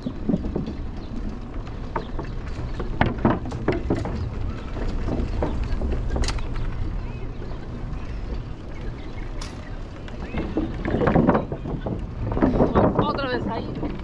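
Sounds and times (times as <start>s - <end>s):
wind rumbling on microphone: 0.0s - 14.0s
voices: 1.8s - 14.0s.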